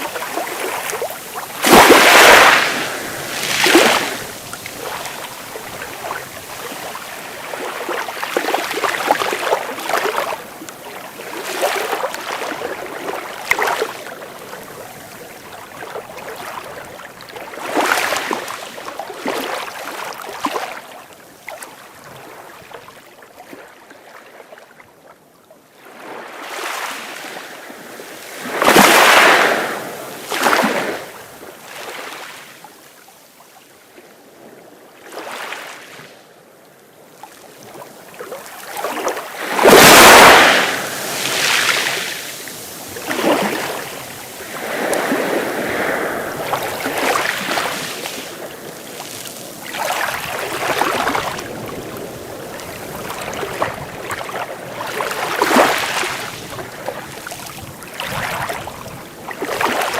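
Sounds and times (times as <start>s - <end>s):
sea waves breaking: 0.0s - 20.9s, 25.8s - 32.5s, 37.3s - 59.9s.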